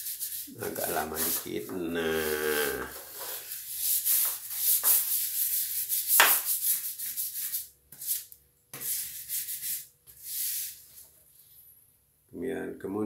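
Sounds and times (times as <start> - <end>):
scrub brush scrubbing wet tiles: 0.0 - 11.1.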